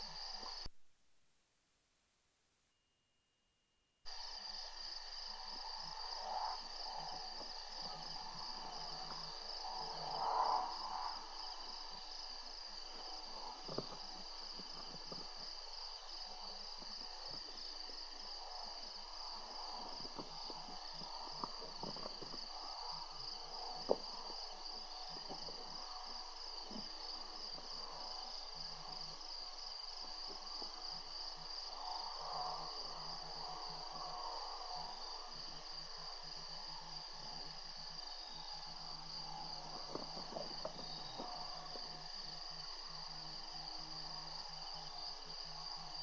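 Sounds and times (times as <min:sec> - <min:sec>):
crickets trilling: 0:00.0 - 0:00.7, 0:04.1 - 0:46.0.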